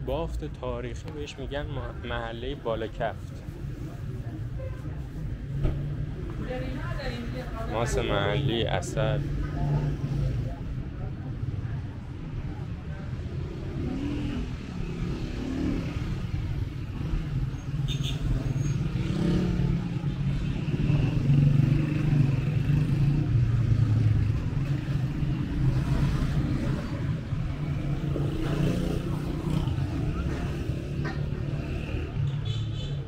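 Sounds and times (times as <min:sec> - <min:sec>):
vehicles passing on street: 0:00.0 - 0:33.0.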